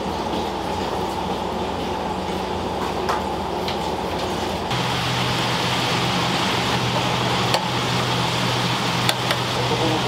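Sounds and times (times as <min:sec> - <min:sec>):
kitchen machinery humming: 0:00.0 - 0:10.0.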